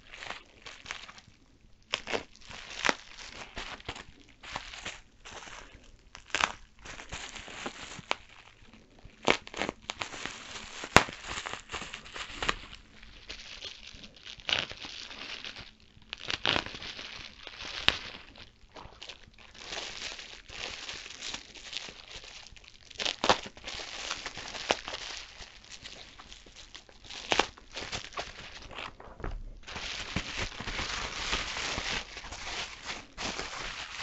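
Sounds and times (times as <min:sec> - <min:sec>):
bubble wrap crinkling: 0:00.0 - 0:34.0
bubble wrap snaps: 0:00.0 - 0:34.0.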